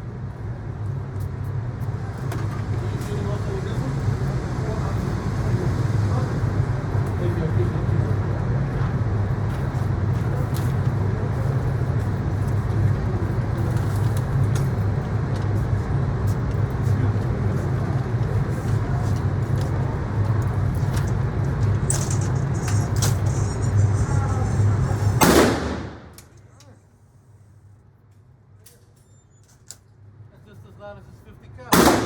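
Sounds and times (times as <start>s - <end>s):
low droning hum: 0.0s - 26.7s
constant noise: 0.0s - 32.0s.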